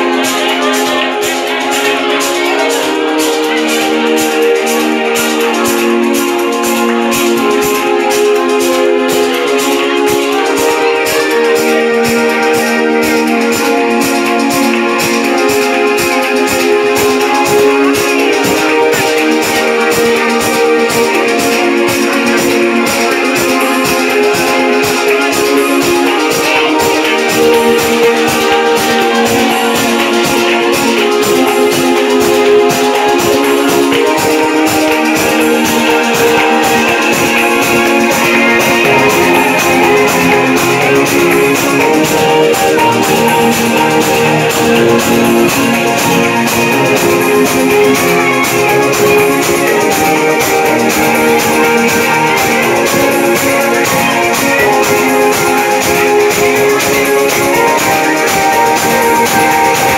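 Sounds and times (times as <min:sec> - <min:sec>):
loud dance music with beat: 0:00.0 - 0:59.9.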